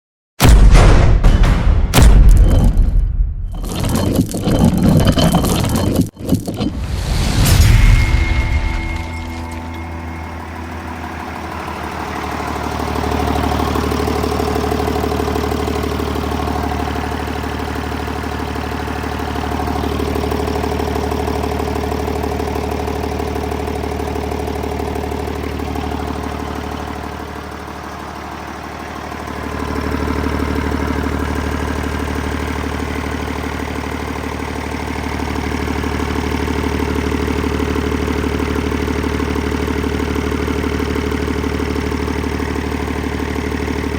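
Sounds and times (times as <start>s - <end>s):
diesel engine idling: 8.0s - 43.9s.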